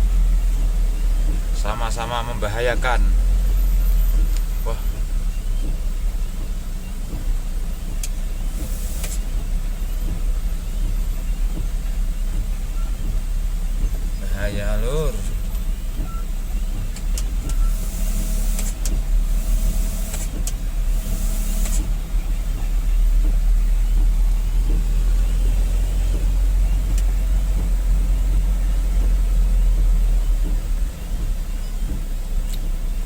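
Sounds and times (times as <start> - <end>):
truck diesel engine under load: 0.0 - 33.0.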